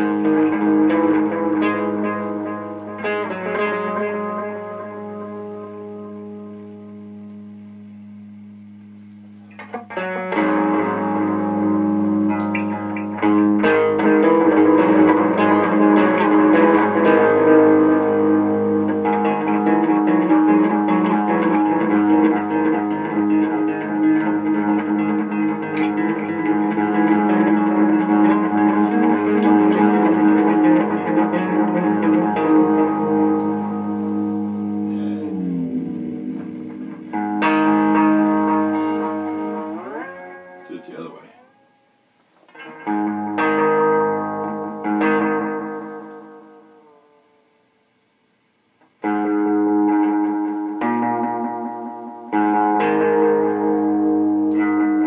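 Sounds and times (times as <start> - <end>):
electric guitar chords and notes: 0.0 - 47.7, 48.7 - 55.0.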